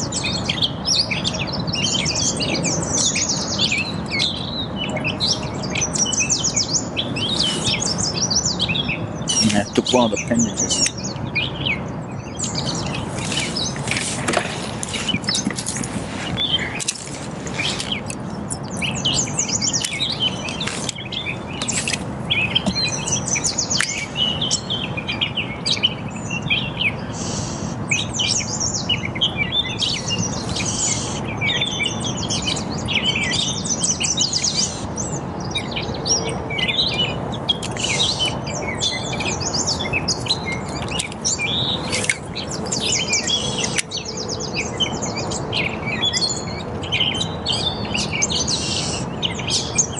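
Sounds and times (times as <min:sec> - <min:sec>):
songbirds chirping and singing: 0:00.0 - 0:49.9.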